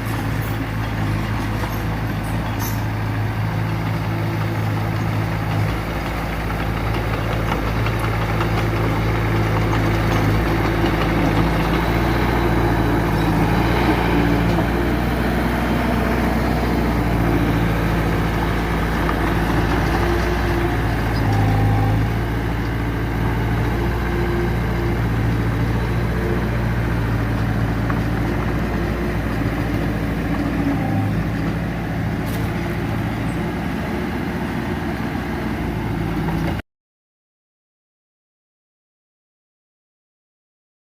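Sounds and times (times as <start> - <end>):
diesel engine running: 0.0 - 36.6.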